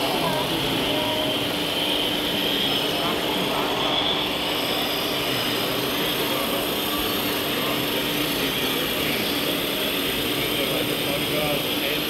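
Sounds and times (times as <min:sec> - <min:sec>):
large hall background noise: 0:00.0 - 0:12.0.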